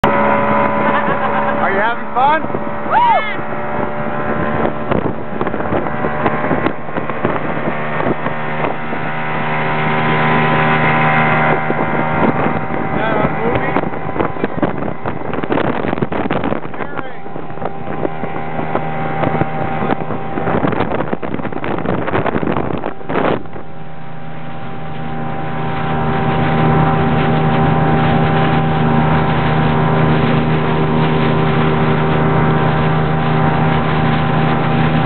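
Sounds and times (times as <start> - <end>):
outboard motor running: 0.0 - 35.0
wind noise on microphone: 0.0 - 35.0.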